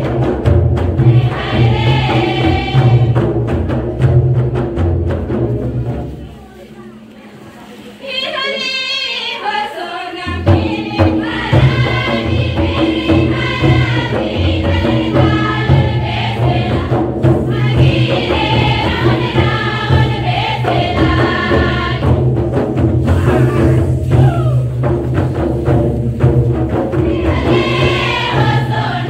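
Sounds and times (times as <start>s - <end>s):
group singing folk song: 0.0s - 4.3s, 8.0s - 29.0s
low steady drumbeat: 0.0s - 7.5s, 10.2s - 29.0s.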